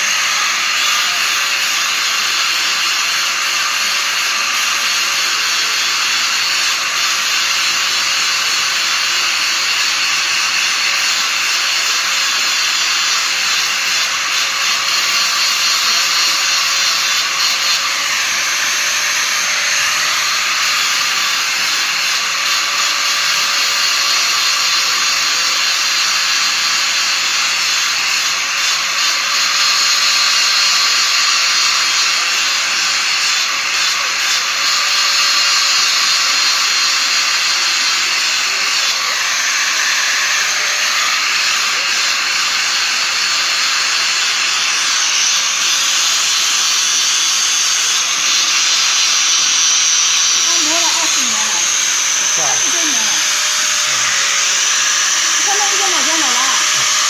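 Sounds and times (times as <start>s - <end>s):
grinding wheel grinding metal: 0.0s - 57.0s.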